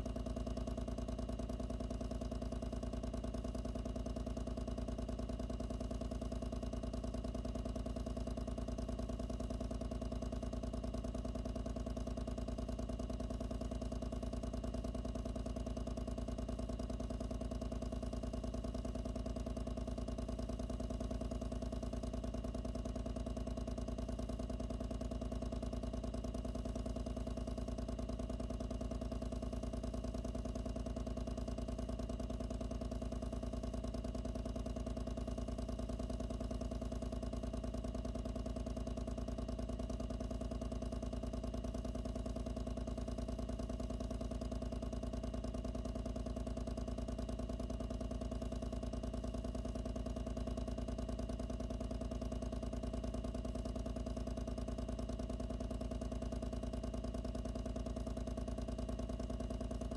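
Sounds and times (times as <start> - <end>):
pump humming and pulsing: 0.0 - 59.9.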